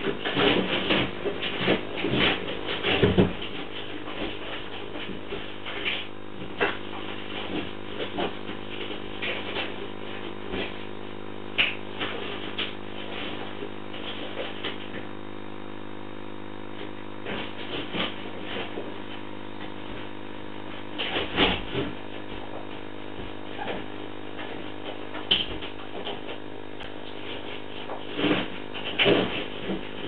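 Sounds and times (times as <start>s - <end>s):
electrical hum and hiss: 0.0s - 30.0s.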